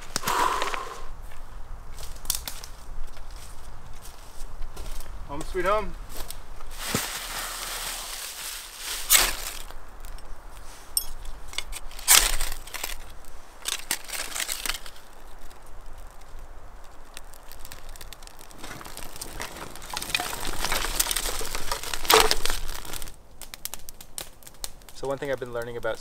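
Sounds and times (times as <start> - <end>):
crunching and crinkling of gear: 0.0 - 26.0
wood fire crackling: 0.0 - 26.0.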